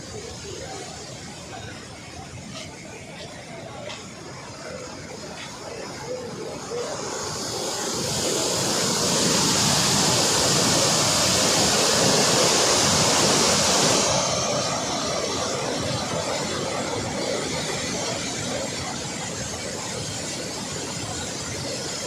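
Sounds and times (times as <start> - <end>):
water rushing from dam spillway: 0.0 - 22.0.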